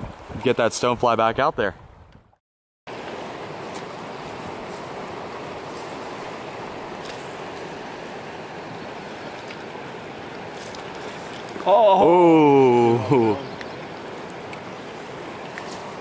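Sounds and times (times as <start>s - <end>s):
river rushing over rocks: 2.9s - 16.0s.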